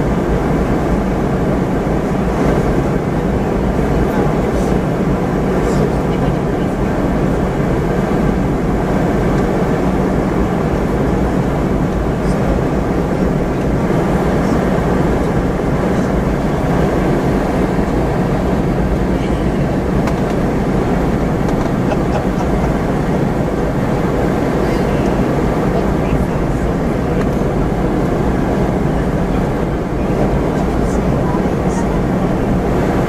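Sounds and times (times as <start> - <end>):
airflow rush in cabin: 0.0 - 33.0
low engine hum: 0.0 - 33.0.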